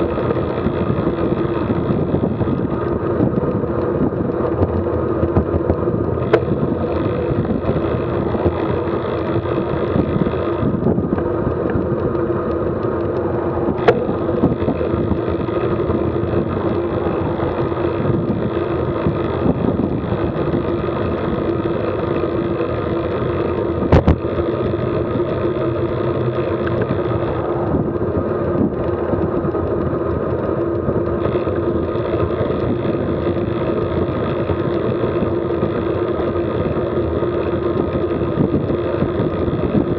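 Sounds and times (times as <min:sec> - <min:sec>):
bicycle road noise: 0:00.0 - 0:39.9.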